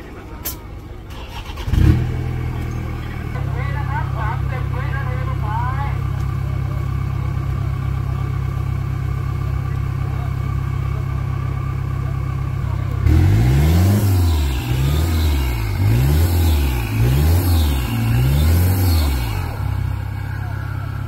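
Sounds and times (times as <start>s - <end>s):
pickup truck engine revving: 1.0s - 21.0s.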